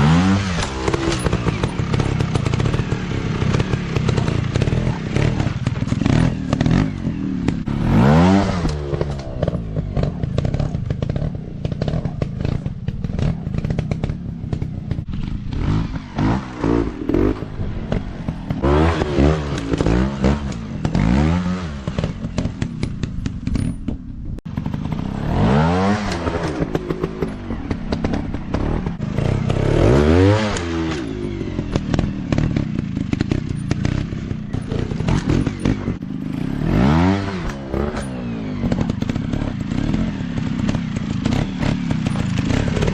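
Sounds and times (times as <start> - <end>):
dirt bike engine revving: 0.0 - 23.8, 24.5 - 42.9.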